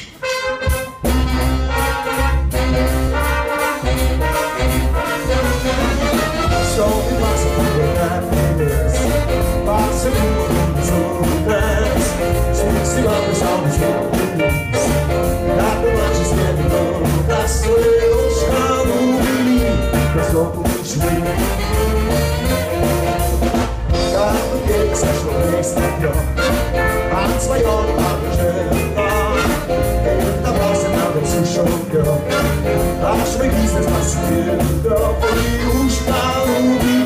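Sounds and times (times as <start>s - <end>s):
big band playing jazz: 0.0s - 37.0s
man singing through pa: 6.4s - 23.2s, 23.9s - 37.0s.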